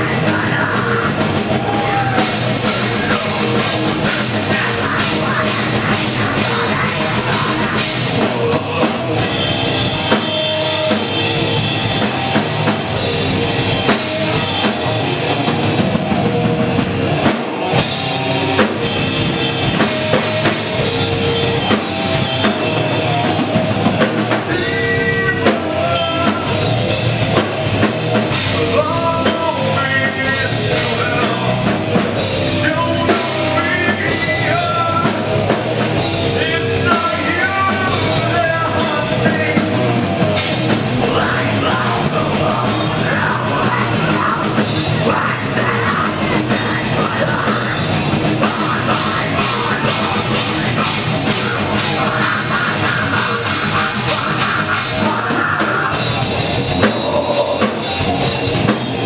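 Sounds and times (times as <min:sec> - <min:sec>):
drum and cymbal hits: 0:00.0 - 0:59.0
electric guitar: 0:00.0 - 0:59.0
rock band playing: 0:00.0 - 0:59.0.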